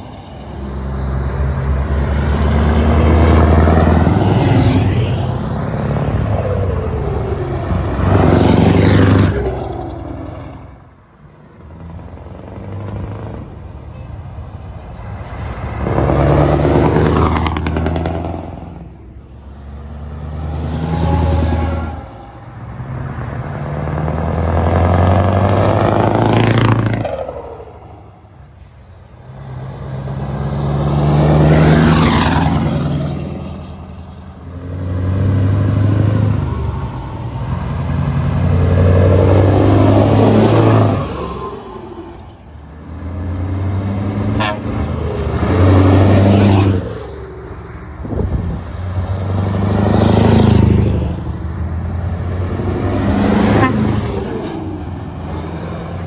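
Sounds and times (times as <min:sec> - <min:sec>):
diesel trucks driving past: 0:00.0 - 0:56.0.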